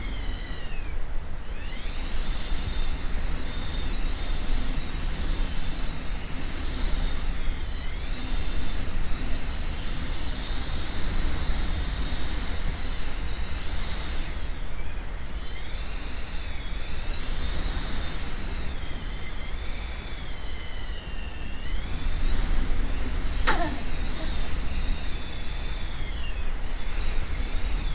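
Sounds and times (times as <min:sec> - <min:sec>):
shrill wind whistling: 0:00.0 - 0:27.9.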